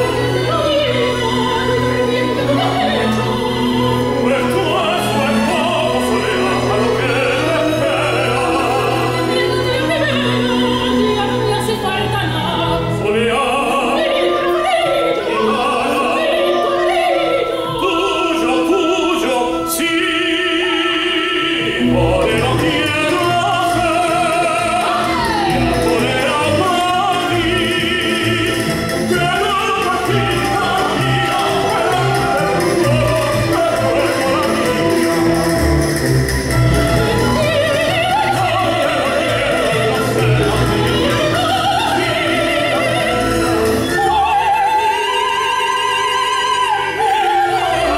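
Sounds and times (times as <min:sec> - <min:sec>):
operatic duet singing: 0:00.0 - 0:47.9
symphony orchestra: 0:00.0 - 0:47.9.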